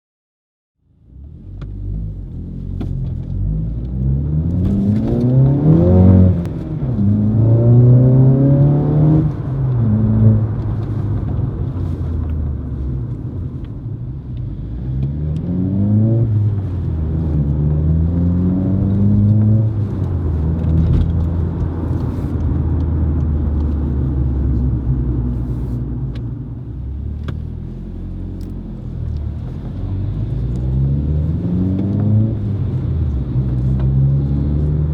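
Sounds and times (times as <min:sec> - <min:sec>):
car engine accelerating: 0:01.0 - 0:34.9.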